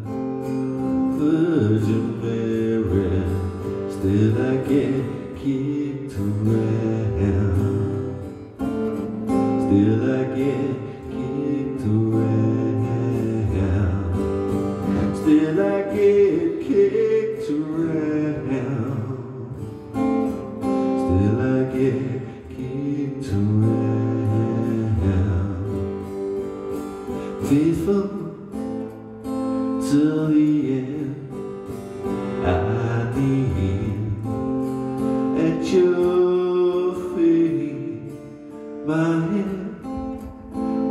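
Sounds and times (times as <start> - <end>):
acoustic guitar strumming: 0.0 - 40.9
man singing: 0.0 - 40.9.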